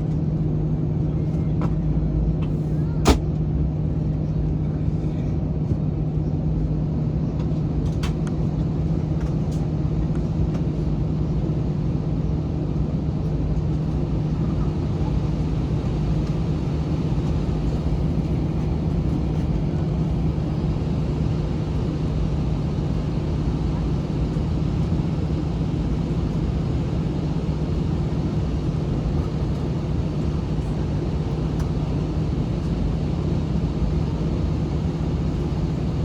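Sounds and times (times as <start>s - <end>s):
aircraft cabin hum and rumble: 0.0s - 36.0s.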